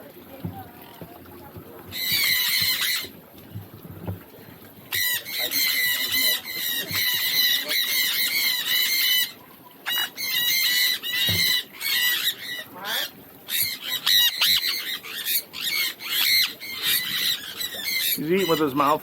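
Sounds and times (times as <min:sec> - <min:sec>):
small birds chattering: 0:00.3 - 0:03.7, 0:04.4 - 0:19.0.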